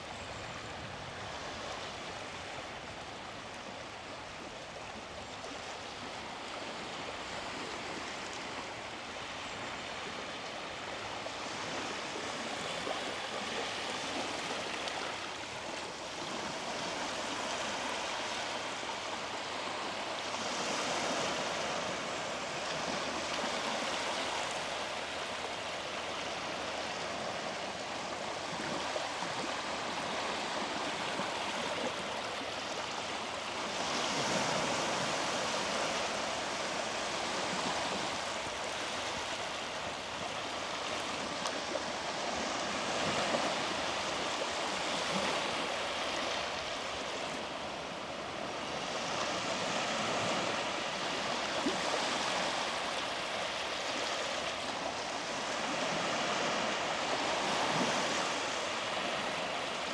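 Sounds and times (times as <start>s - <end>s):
waves washing onto beach: 0.0s - 59.9s.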